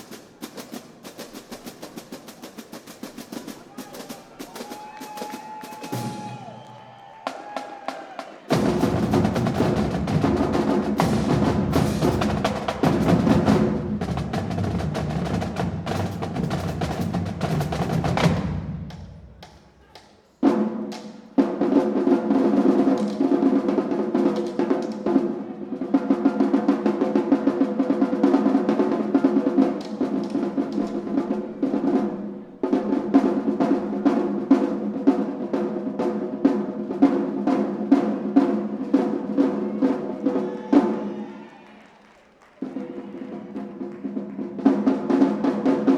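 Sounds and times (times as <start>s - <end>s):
marching drumline playing: 0.0s - 41.4s, 42.3s - 45.9s.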